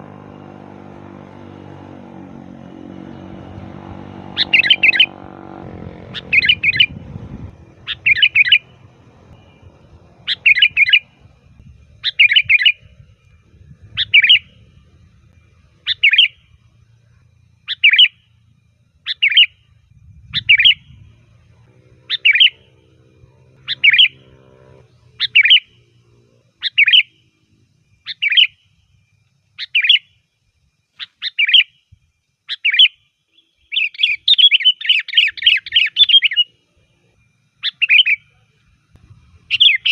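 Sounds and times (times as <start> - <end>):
bulbul singing chirping phrases: 0.0 - 29.0, 29.6 - 30.2, 31.0 - 31.9, 32.5 - 39.9.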